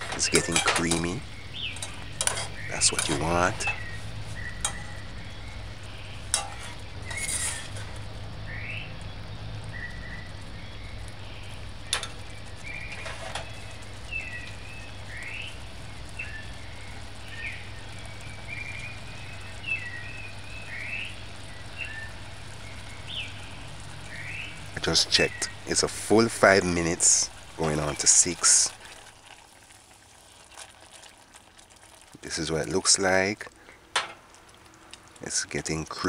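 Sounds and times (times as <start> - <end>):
low steady hum: 0.0 - 36.0
stew bubbling: 0.0 - 36.0.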